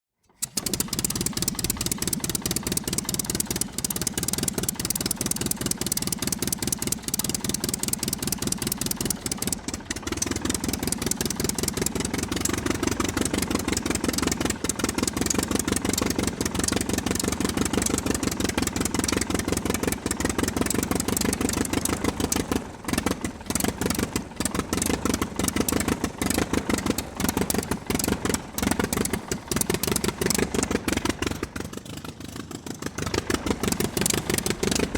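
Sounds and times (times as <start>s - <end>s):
aircraft engine running: 0.4s - 34.9s.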